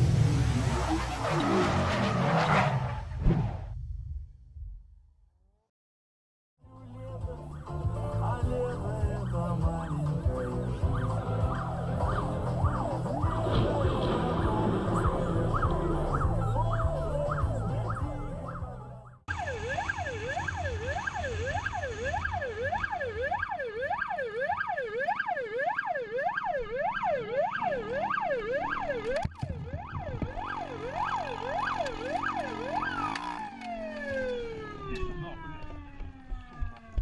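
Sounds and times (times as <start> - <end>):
emergency siren wailing: 7.2 - 37.0.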